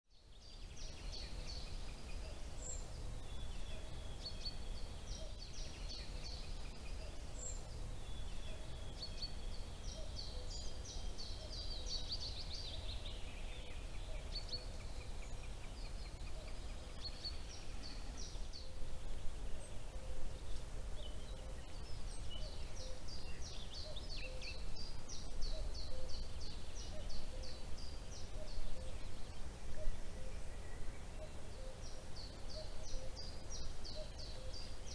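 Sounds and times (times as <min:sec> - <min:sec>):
songbirds singing: 0:00.1 - 0:34.9.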